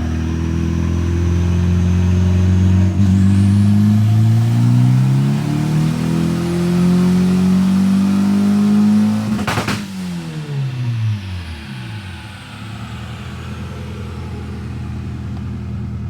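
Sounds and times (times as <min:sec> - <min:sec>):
turbocharged engine revving under load: 0:00.0 - 0:16.0.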